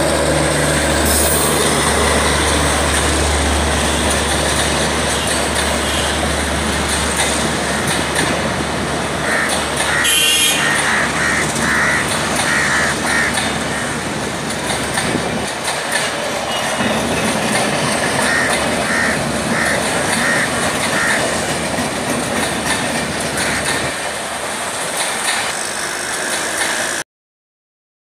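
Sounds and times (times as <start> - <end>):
passenger train wheels on rail: 0.0 - 27.0.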